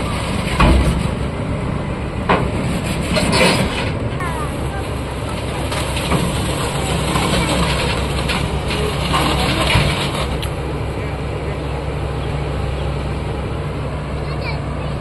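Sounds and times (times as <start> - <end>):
steel tracks clanking: 0.0 - 14.5
excavator diesel engine running: 0.0 - 15.0.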